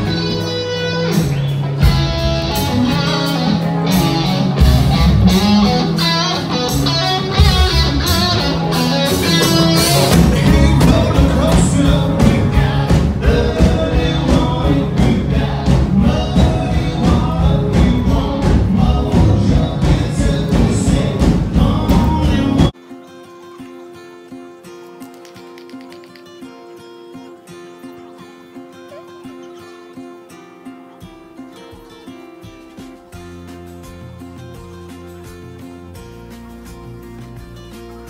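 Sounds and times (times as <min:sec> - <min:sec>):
song with guitar and singing: 0:00.0 - 0:38.0.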